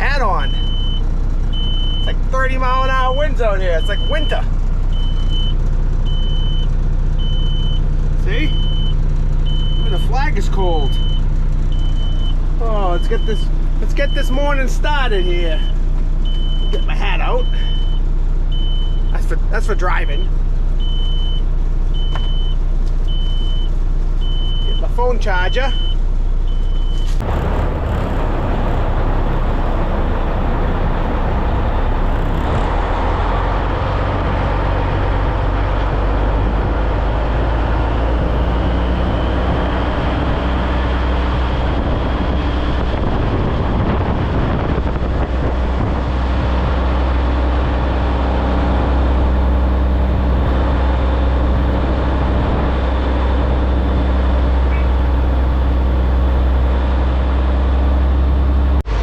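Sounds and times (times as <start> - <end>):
diesel truck engine droning: 0.0 - 59.0.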